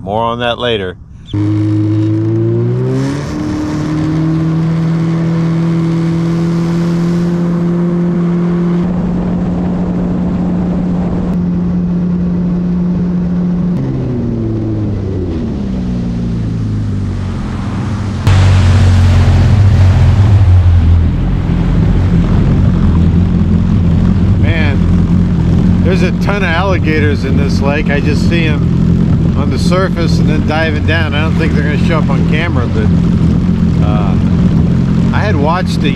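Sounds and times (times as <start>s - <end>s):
jet ski engine revving: 1.3s - 35.9s.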